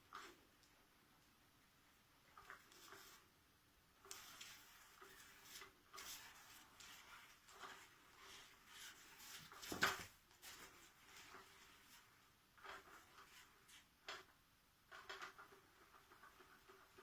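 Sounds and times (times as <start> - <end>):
rustling and scratching of cat toy: 0.0 - 0.7, 2.2 - 3.3, 4.0 - 17.0.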